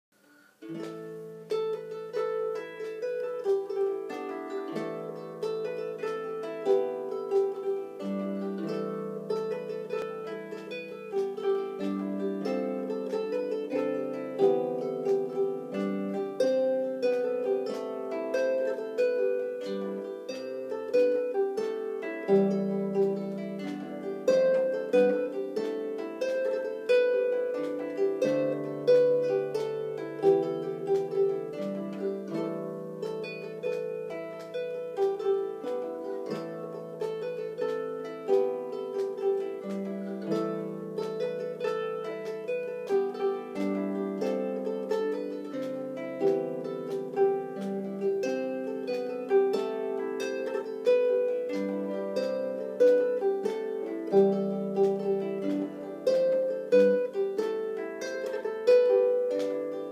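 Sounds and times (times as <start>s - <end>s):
solo harp melody: 0.2s - 59.9s.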